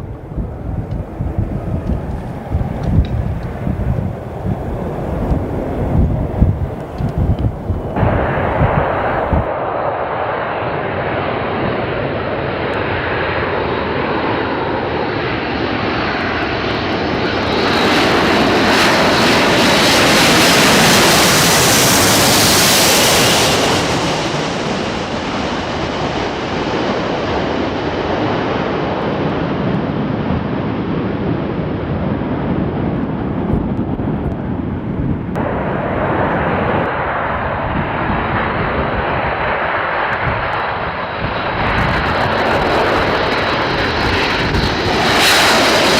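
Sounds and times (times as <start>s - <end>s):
jet airliner flying past: 0.0s - 45.9s.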